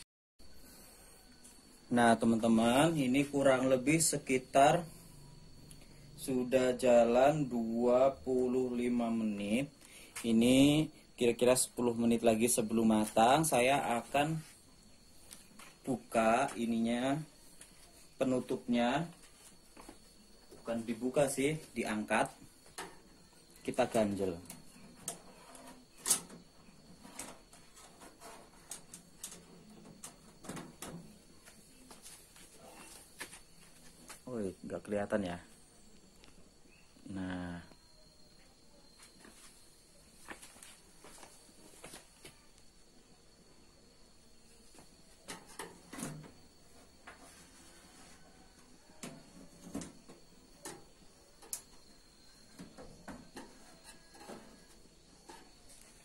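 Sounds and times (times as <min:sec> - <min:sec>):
faint high whine: 0:00.4 - 0:56.0.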